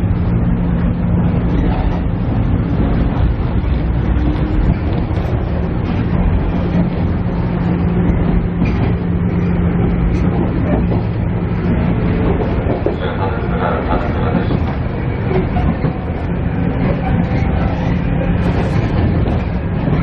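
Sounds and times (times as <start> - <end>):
diesel engine drone: 0.0 - 20.0
wheels rumbling on track: 0.0 - 20.0.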